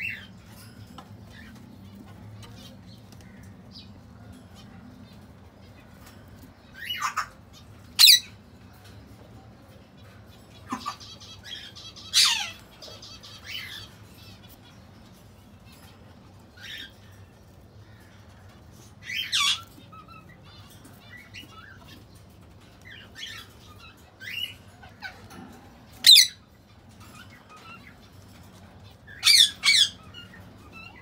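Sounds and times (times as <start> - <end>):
parakeets squawking: 0.0 - 9.1, 9.7 - 31.0.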